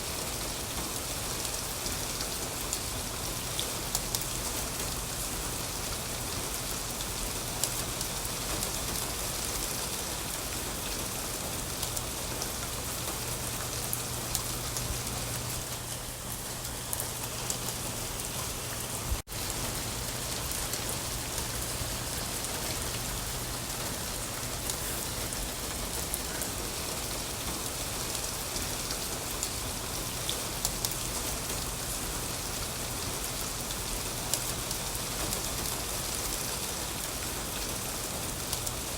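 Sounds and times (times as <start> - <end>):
steady rain falling: 0.0 - 38.9
raindrops ticking: 0.3 - 38.8.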